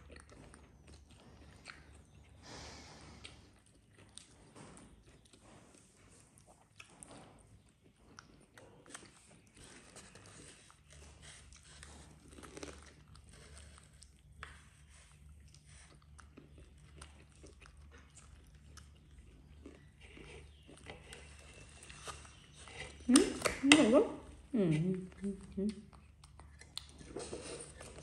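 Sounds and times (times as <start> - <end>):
chewing and crunching vegetables: 0.0 - 28.0
low steady hum: 0.0 - 28.0.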